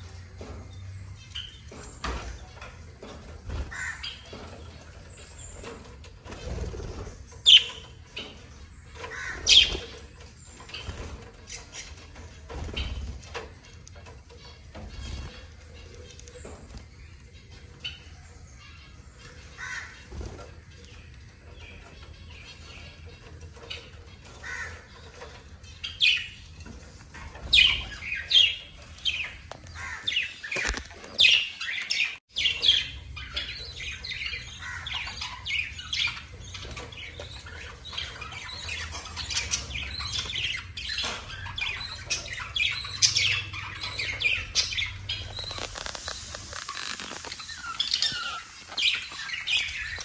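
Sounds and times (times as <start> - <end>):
budgerigars chirping and chattering: 0.0 - 50.0.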